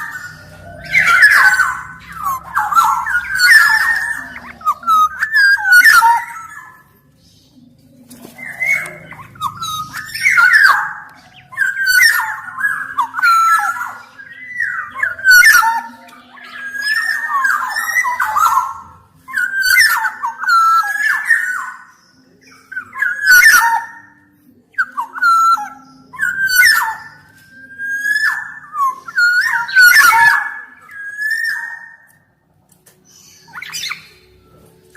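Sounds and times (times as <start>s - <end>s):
bird singing fluty song: 0.0s - 34.9s.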